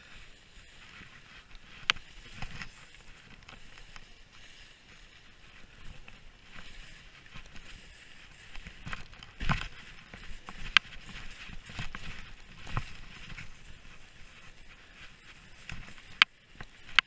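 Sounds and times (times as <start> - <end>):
skis scraping over snow: 0.0 - 17.0.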